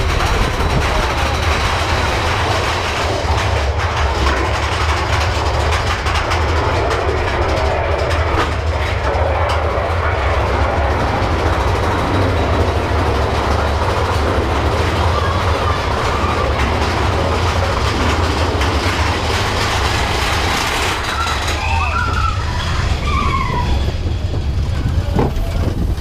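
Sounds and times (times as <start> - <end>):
roller coaster cars rumbling: 0.0 - 26.0.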